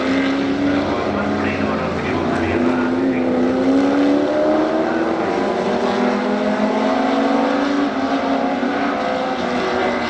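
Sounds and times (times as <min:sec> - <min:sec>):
racing car engine accelerating: 0:00.0 - 0:10.0.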